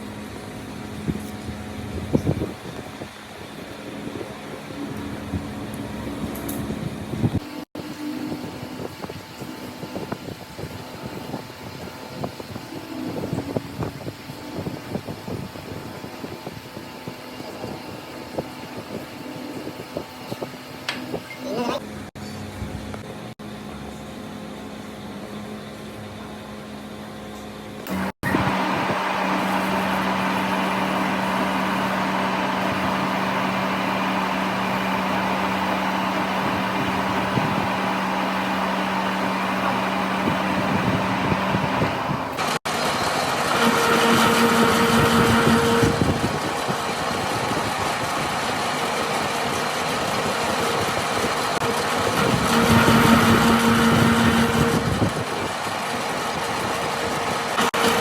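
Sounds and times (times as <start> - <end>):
metalworking machinery humming: 0.0 - 58.0.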